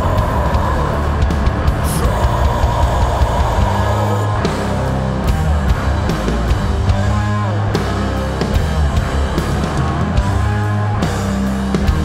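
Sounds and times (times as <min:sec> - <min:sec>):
distorted electric guitars: 0:00.0 - 0:12.0
drum kit: 0:00.0 - 0:12.0.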